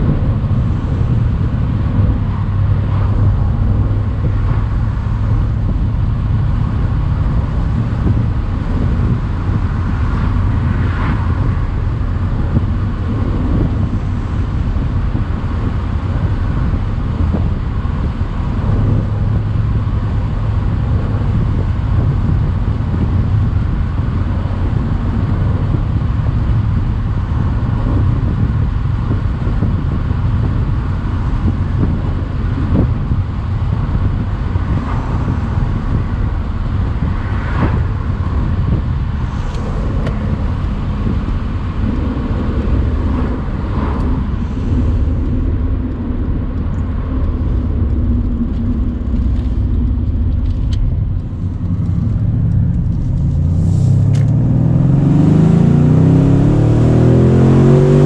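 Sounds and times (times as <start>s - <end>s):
car engine running: 0.0s - 58.0s
wind: 0.0s - 58.0s.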